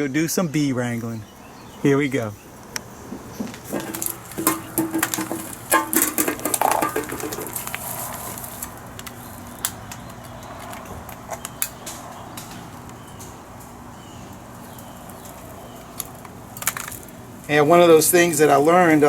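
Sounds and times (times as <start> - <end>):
crunching fuel being packed: 2.6 - 19.0.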